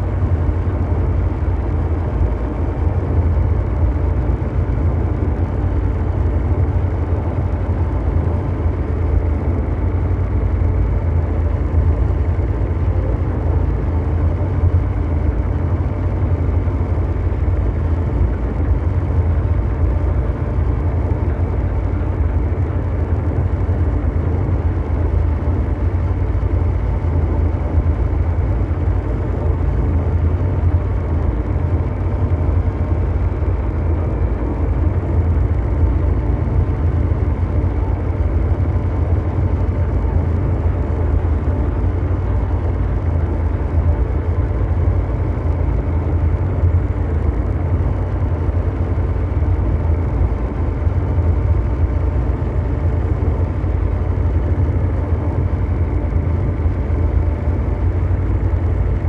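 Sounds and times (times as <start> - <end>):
deep engine-like hum: 0.0 - 59.0.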